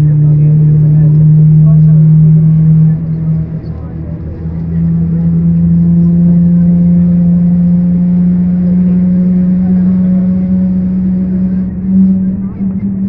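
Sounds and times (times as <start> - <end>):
jet airliner cabin hum: 0.0 - 13.0.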